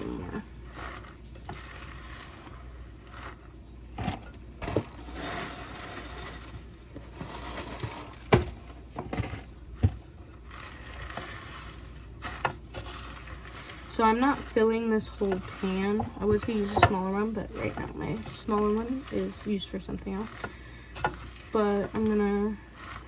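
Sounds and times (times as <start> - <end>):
spoon stirring sticky cereal: 0.0 - 23.0.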